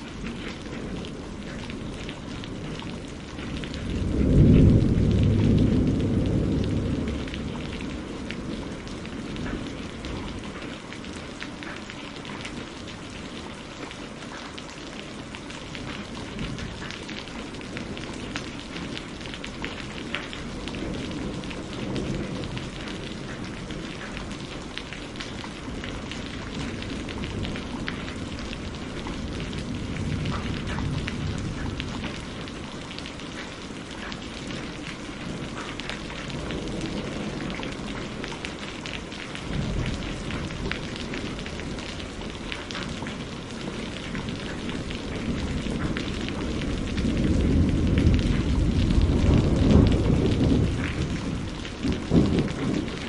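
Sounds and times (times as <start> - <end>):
rain with drop ticks: 0.0 - 53.0.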